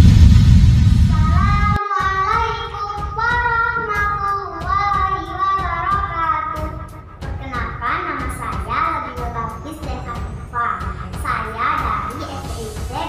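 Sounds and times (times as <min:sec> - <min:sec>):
child singing: 0:01.1 - 0:13.0.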